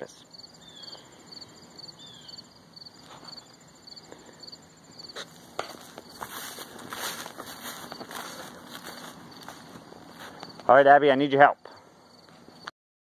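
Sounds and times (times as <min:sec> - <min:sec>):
field ambience: 0:00.0 - 0:12.7
insects chirping: 0:00.0 - 0:12.7.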